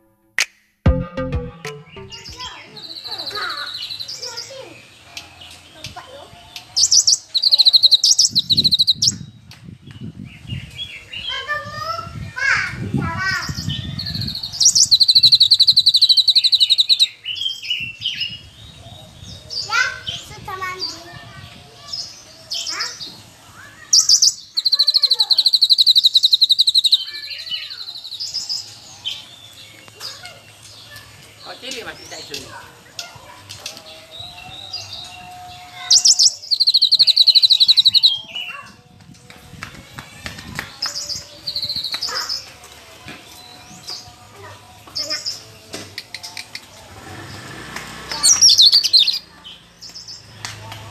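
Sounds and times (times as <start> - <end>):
bird singing with trills: 0.9 - 11.5, 13.3 - 23.1, 23.7 - 33.0, 33.6 - 50.3.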